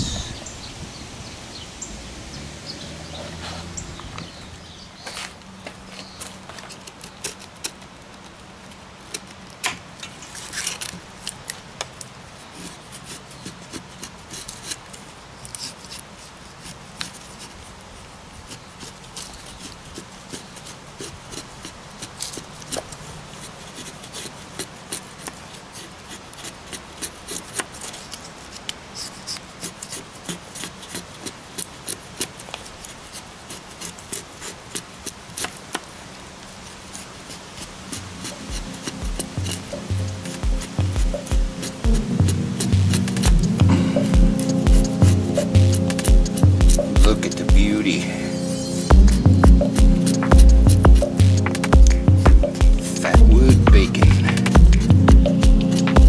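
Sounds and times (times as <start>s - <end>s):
knife scraping wood: 5.1s - 56.0s.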